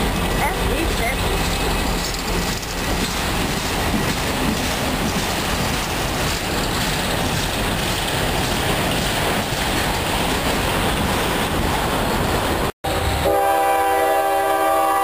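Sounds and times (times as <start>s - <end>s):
wheels clattering on rails: 0.0s - 12.7s
freight train rumbling past: 0.0s - 15.0s.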